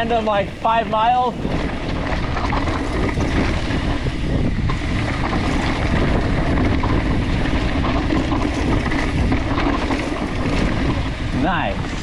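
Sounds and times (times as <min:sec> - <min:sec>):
bike rolling on dirt trail: 0:00.0 - 0:12.0
wind on microphone: 0:00.0 - 0:12.0
small rattles and knocks: 0:01.4 - 0:11.2.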